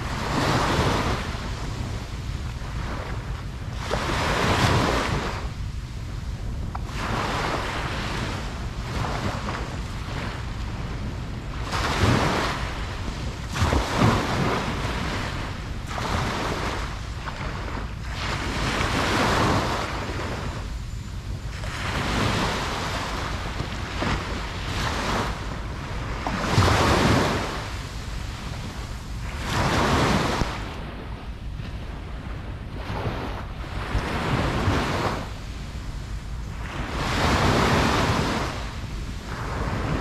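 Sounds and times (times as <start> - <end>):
ocean waves breaking on beach: 0.0 - 40.0
wind rumble on microphone: 0.0 - 40.0.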